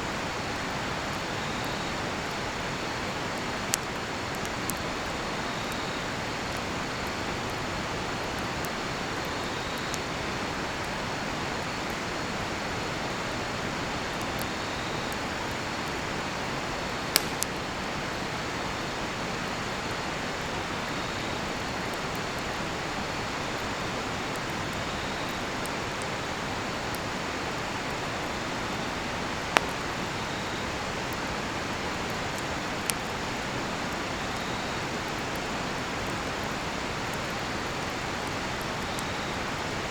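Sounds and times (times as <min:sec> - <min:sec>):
campfire crackling and popping: 0:00.1 - 0:39.9
crickets chirping: 0:00.1 - 0:39.9.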